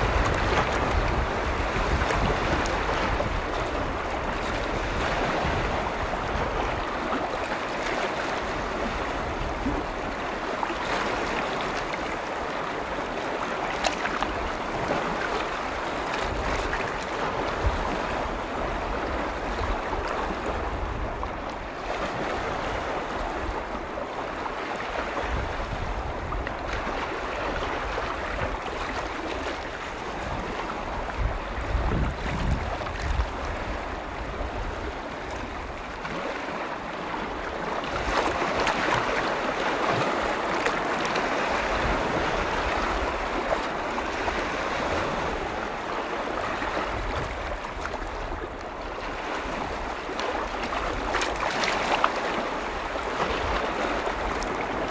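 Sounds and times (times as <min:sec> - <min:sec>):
waves washing against shore: 0:00.0 - 0:54.9.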